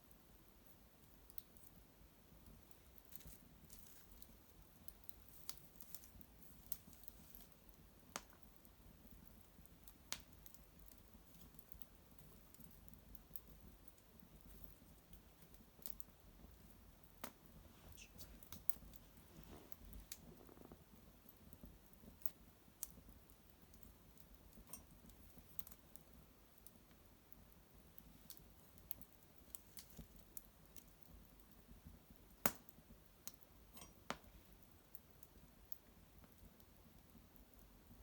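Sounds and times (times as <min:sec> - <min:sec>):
twig fire crackling faintly: 0:00.0 - 0:38.0.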